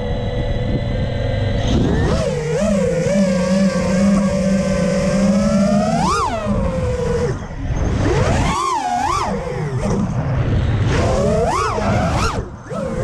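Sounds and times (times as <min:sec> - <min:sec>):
quadcopter motors buzzing: 0:00.0 - 0:13.0.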